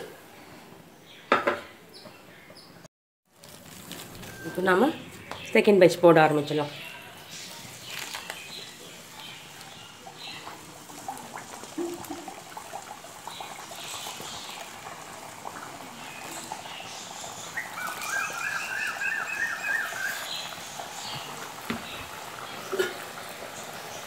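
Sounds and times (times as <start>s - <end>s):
oil sizzling and bubbling: 3.2s - 5.7s, 6.8s - 24.0s.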